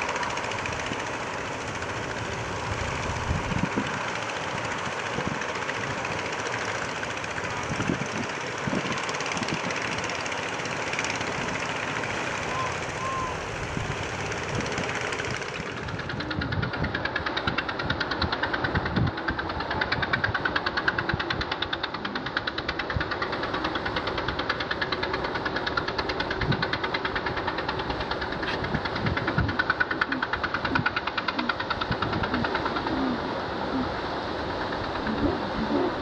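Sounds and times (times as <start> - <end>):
boat engine knocking: 0.0 - 36.0.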